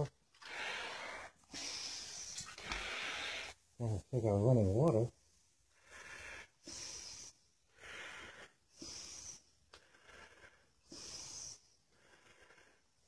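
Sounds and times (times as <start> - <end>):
breathing through face mask: 0.4 - 3.6, 5.8 - 13.0.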